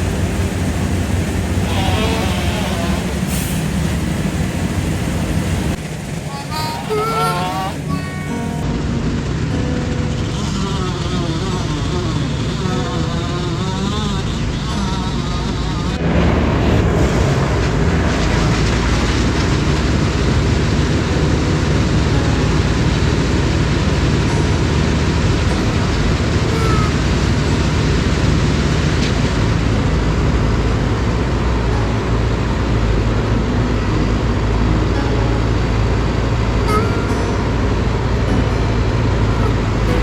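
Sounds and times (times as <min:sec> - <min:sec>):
large engine rumbling: 0:00.0 - 0:40.0.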